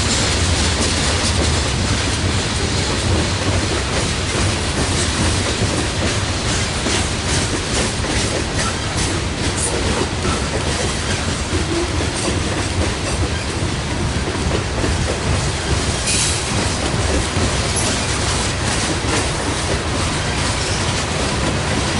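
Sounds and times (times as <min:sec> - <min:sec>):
clickety-clack over rail joints: 0:00.0 - 0:21.9
freight train wheels rumbling: 0:00.0 - 0:21.9.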